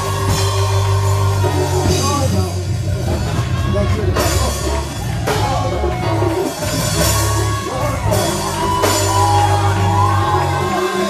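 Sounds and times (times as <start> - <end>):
drum kit with cymbal crashes: 0.0 - 11.0
heavy bass line: 0.0 - 11.0
sung or keyboard melody: 0.0 - 11.0.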